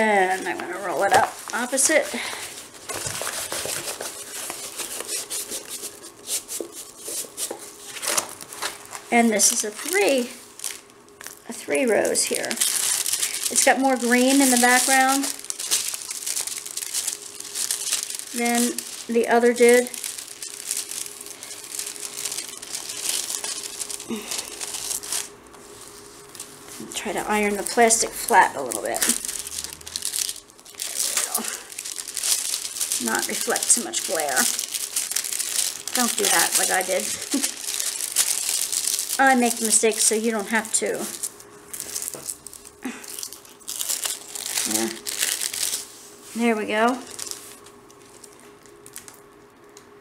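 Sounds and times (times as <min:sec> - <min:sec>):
plastic-covered canvas crinkling: 0:00.0 - 0:49.4.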